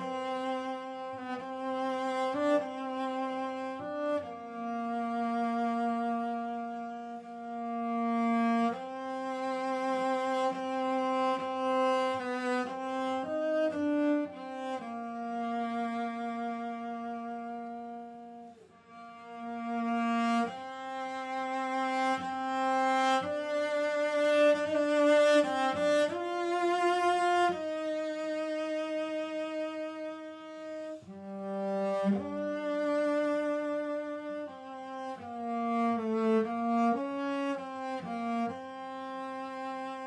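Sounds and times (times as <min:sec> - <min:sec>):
solo cello slow melody: 0:00.0 - 0:40.0.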